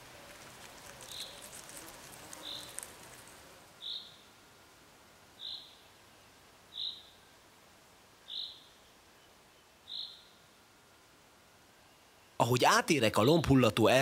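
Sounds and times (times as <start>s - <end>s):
faint forest background: 0.0s - 14.0s.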